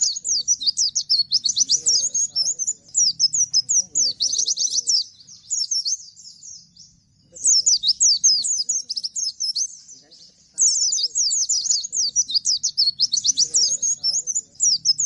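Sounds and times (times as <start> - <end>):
bird singing rapid rattling song: 0.0 - 15.0.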